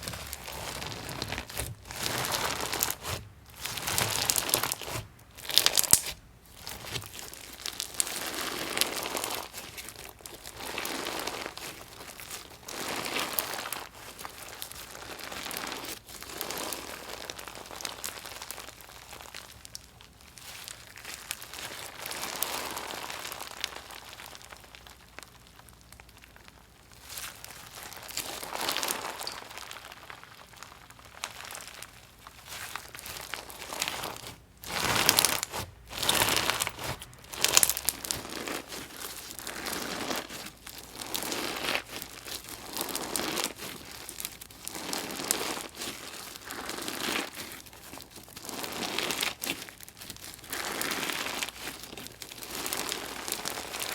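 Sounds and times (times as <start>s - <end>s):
crunchy slime crackling: 0.0s - 53.9s.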